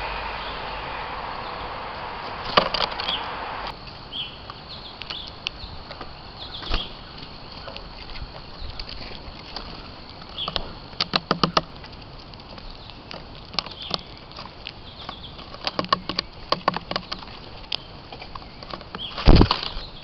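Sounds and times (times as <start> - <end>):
small birds chirping: 0.0 - 20.0
steady hiss: 0.0 - 20.0.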